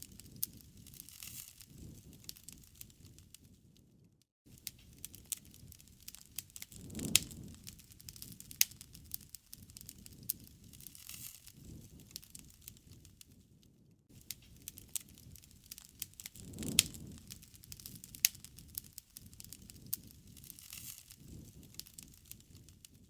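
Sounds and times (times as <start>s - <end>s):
low rush of flames: 0.0s - 23.0s
wood fire crackling and popping: 0.0s - 23.0s.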